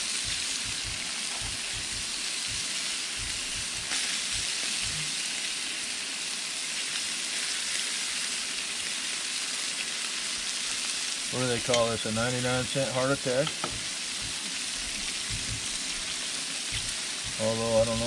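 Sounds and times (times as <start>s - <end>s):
fish sizzling on a griddle: 0.0s - 18.0s.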